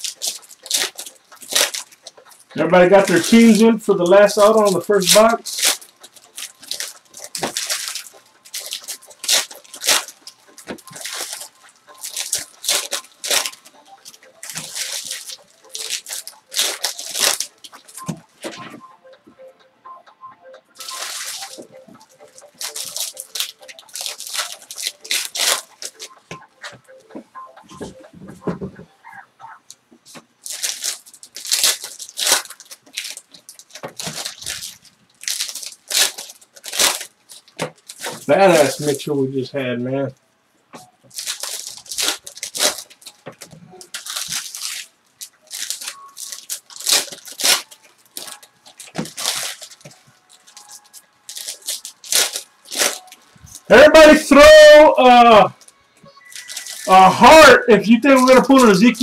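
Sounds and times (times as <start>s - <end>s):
foil wrappers crinkling and tearing: 0.0s - 18.8s, 20.8s - 26.9s, 29.7s - 39.2s, 40.8s - 59.0s.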